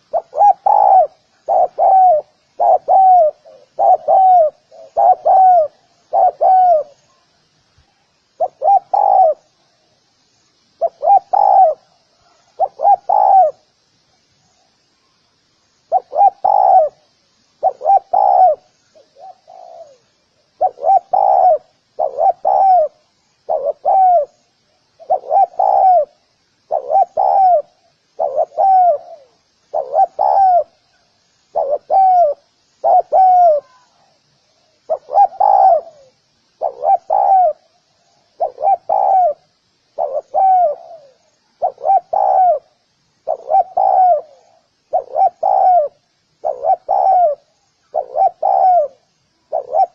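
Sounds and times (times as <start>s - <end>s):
dove cooing: 0.0s - 7.3s, 8.4s - 9.6s, 10.8s - 13.7s, 15.9s - 24.4s, 25.0s - 34.1s, 34.8s - 49.9s.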